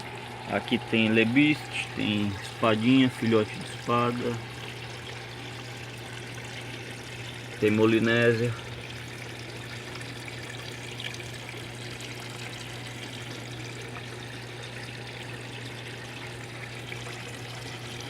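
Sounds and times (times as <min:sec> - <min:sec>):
water pouring into fish tank: 0:00.0 - 0:18.0.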